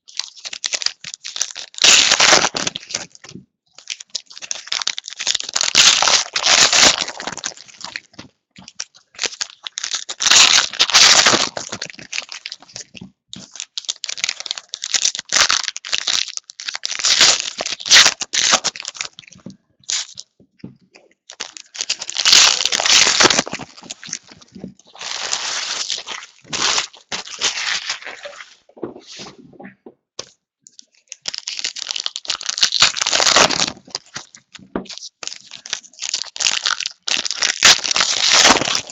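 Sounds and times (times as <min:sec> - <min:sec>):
foil wrappers tearing and crinkling: 0:00.1 - 0:03.2, 0:03.8 - 0:20.2, 0:21.3 - 0:28.5, 0:31.1 - 0:38.9.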